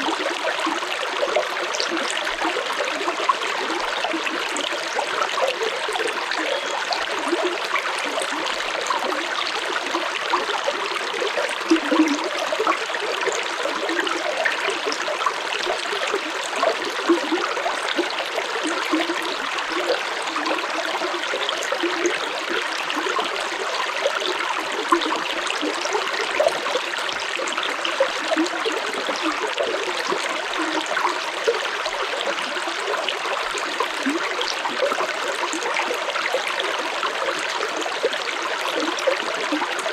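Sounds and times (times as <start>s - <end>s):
stream water flowing: 0.0s - 39.9s
water splashes and gurgles: 0.0s - 39.9s.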